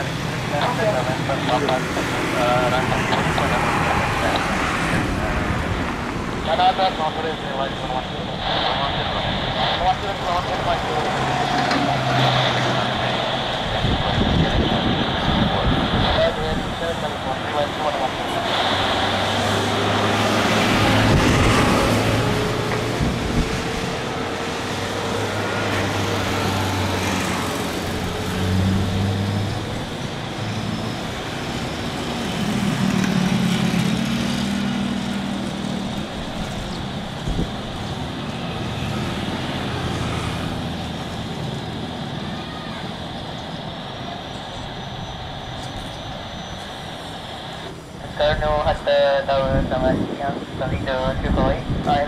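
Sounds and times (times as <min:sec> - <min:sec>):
airport background noise: 0:00.0 - 0:52.0
jet engines at low power: 0:00.0 - 0:52.0.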